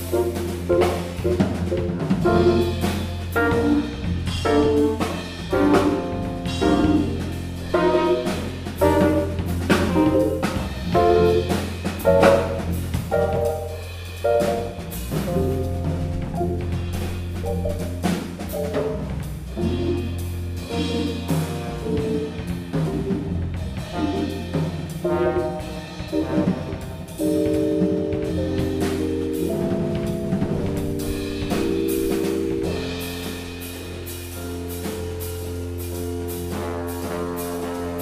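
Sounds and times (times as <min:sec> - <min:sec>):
drum kit with busy cymbals: 0:00.0 - 0:38.0
electric bass: 0:00.0 - 0:38.0
keyboard piano: 0:00.0 - 0:38.0
trombone: 0:00.0 - 0:38.0.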